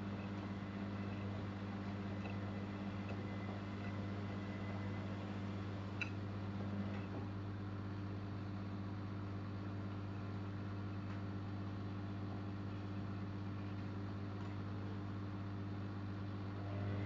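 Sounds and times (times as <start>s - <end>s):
washer-dryer humming: 0.0s - 17.0s.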